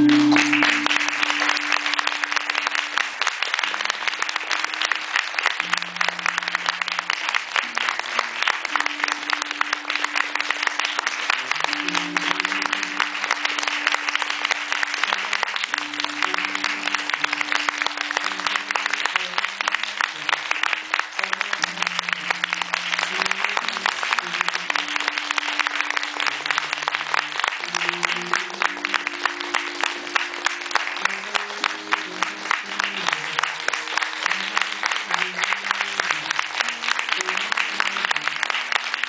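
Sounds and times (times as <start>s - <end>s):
instrumental music with low chords: 0.0s - 35.2s
audience applauding: 0.0s - 39.0s.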